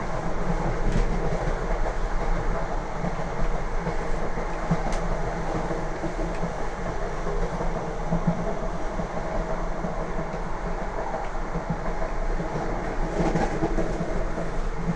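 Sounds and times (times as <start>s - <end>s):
train wheels rolling on rail: 0.0s - 14.9s.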